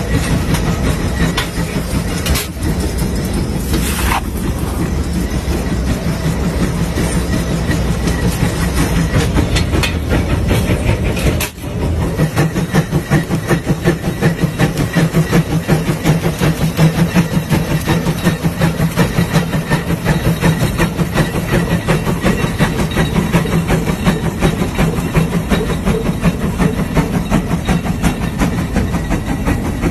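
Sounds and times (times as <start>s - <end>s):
steam engine exhaust chuffing: 0.0s - 29.9s.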